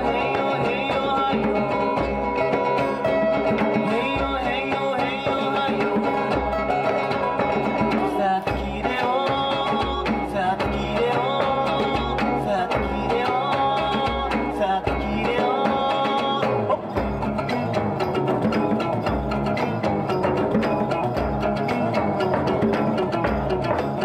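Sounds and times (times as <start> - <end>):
acoustic folk band playing: 0.0 - 24.0
low drum beats: 0.0 - 24.0.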